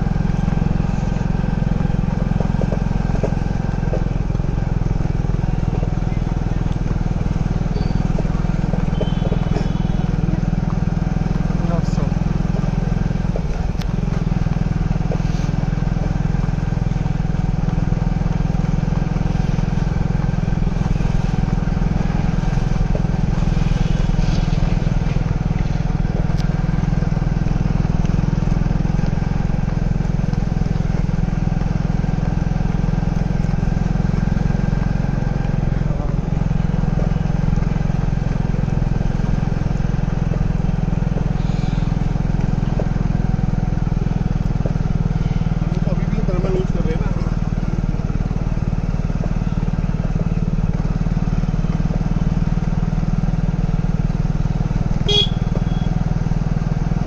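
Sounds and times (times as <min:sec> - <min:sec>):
motorcycle engine running steadily: 0:00.0 - 0:57.0.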